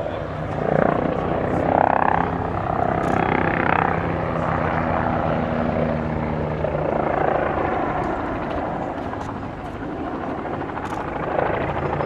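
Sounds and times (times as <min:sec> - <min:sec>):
helicopter rotor beat and engines: 0:00.0 - 0:12.0.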